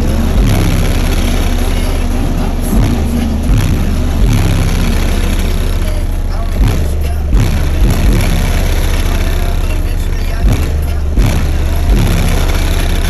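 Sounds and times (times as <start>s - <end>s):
loud bass-heavy music: 0.0s - 13.0s
sliding bass drops: 0.0s - 13.0s.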